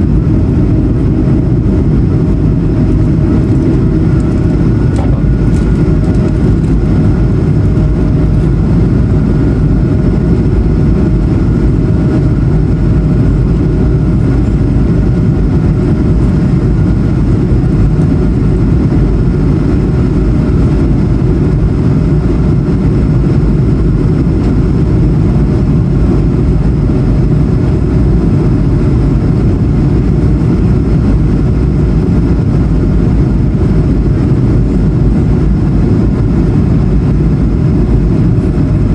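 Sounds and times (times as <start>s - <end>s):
faint engine whine: 0.0s - 38.9s
jet engines heard from cabin: 0.0s - 38.9s.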